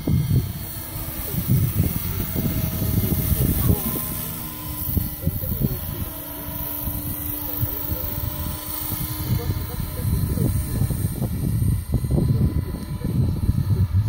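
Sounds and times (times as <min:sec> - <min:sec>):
model helicopter whine: 0:00.0 - 0:14.0
wind buffeting microphone: 0:00.0 - 0:14.0.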